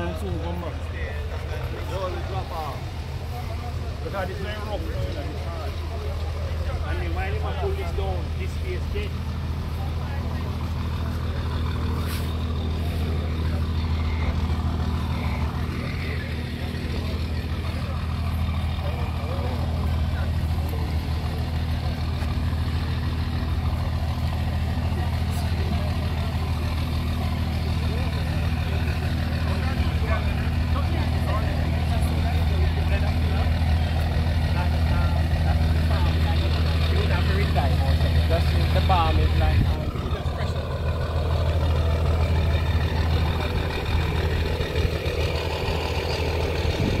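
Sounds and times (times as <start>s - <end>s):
engine idling: 0.0s - 47.0s.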